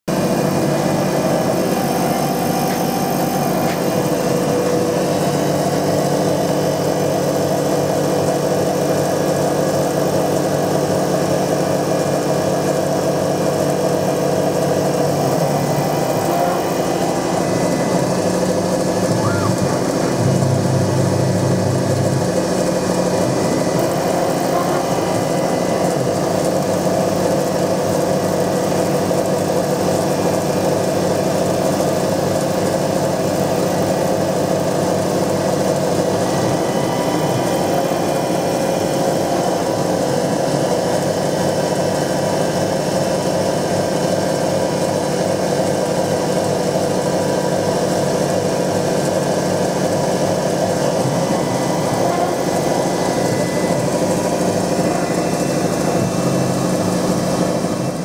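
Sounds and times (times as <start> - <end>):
milling machine cutting metal: 0.1 - 58.0.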